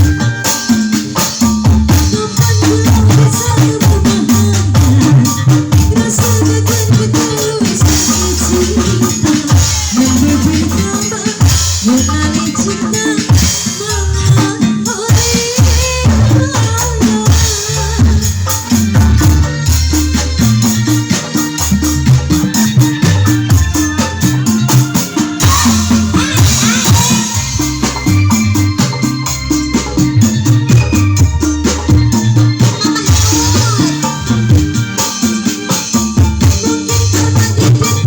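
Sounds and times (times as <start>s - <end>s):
loud music with heavy bass: 0.0s - 38.0s.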